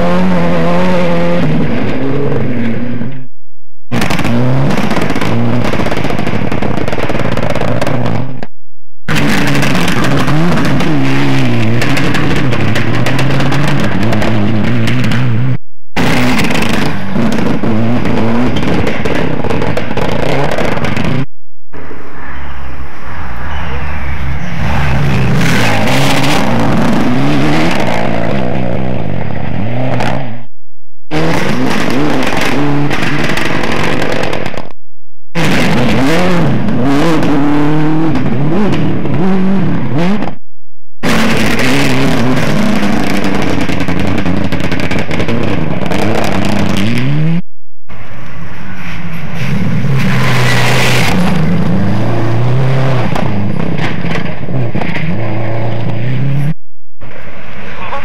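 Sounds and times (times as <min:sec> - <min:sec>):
rally car engines revving: 0:00.0 - 0:03.3, 0:03.9 - 0:08.5, 0:09.1 - 0:21.3, 0:23.2 - 0:30.5, 0:31.1 - 0:40.4, 0:41.0 - 0:58.0.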